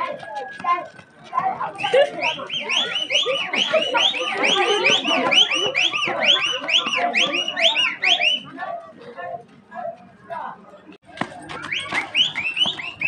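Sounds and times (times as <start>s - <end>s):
crowd shouting and calling: 0.0s - 9.0s, 11.1s - 13.0s.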